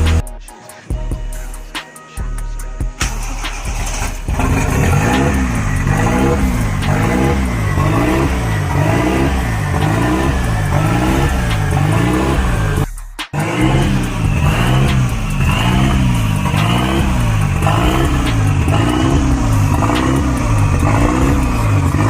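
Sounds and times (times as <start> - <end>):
car engine revving: 0.0 - 0.3, 3.0 - 22.0.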